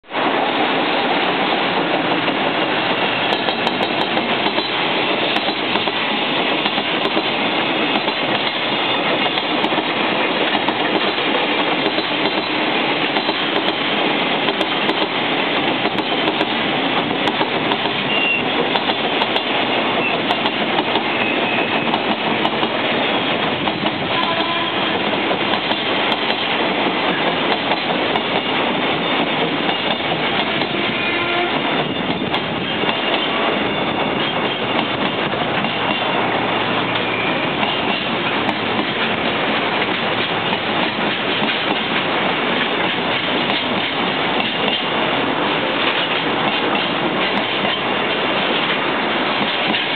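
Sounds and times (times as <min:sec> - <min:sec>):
train wheels on rails: 0:00.1 - 0:49.9.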